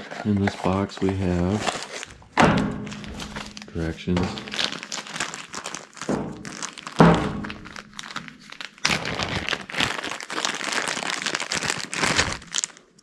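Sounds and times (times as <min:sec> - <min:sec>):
paper and plastic wrapping crinkling: 0:00.0 - 0:13.0.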